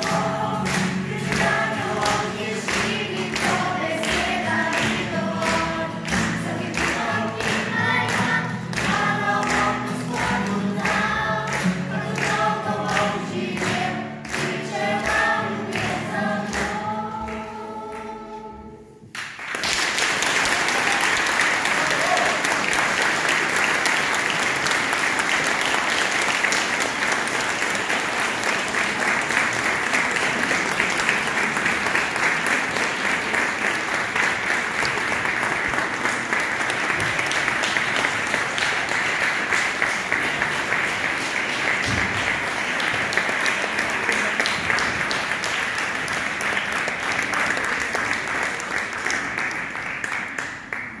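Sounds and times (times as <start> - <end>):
audience applauding: 0.0 - 16.9, 19.1 - 51.0.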